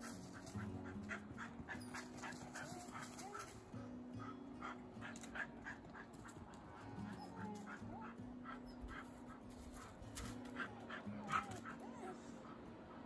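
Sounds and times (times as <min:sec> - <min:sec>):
dog panting: 0:00.0 - 0:13.0
soft background music: 0:00.0 - 0:13.0.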